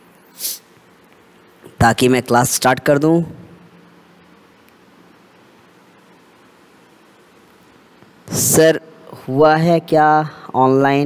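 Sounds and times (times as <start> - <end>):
faint microphone hiss: 0.0 - 11.0.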